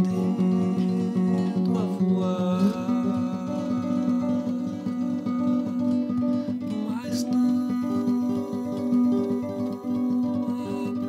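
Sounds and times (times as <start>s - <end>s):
fingerstyle classical guitar arpeggios: 0.0s - 11.0s.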